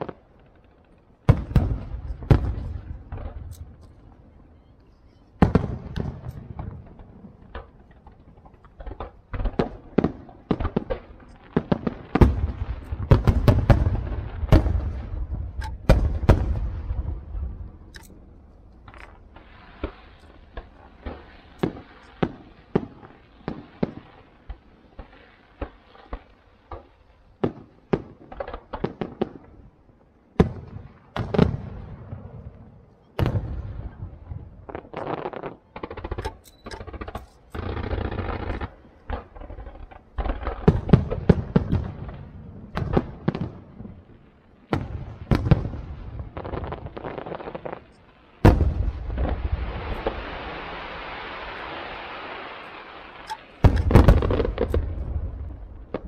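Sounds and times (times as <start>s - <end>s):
fireworks bursting: 0.0s - 56.0s
fireworks crackling and pops: 0.0s - 56.0s.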